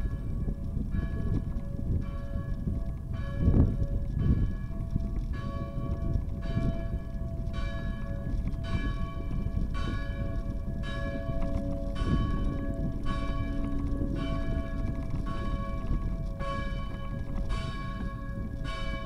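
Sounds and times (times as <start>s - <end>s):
bicycle rumbling on brick street: 0.0s - 19.0s
church bell tolling: 0.0s - 19.0s
low wind: 0.0s - 19.0s.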